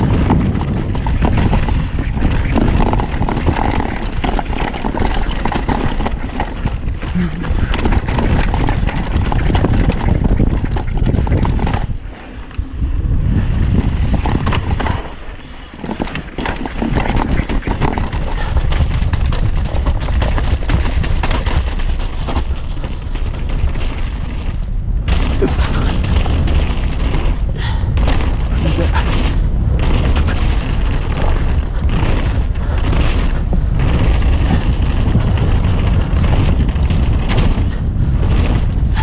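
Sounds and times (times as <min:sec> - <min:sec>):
bike rattling over stones: 0:00.0 - 0:39.0
wind rumble on microphone: 0:00.0 - 0:39.0.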